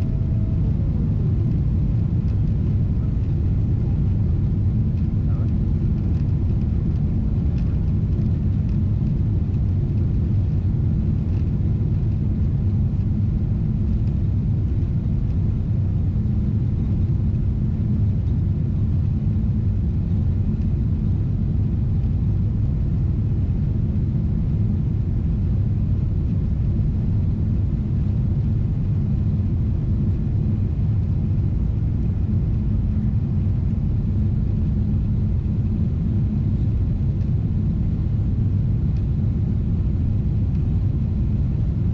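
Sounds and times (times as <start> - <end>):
airplane cabin rumble in flight: 0.0 - 41.9.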